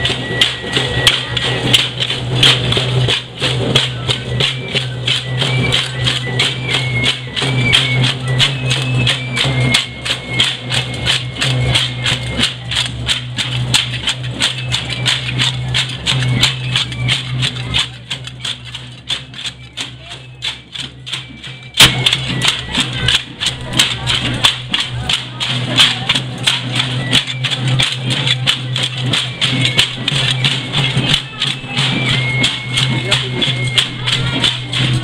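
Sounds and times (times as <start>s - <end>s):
high stepping melody: 0.0s - 35.0s
rattles shaken in a beat: 0.0s - 35.0s.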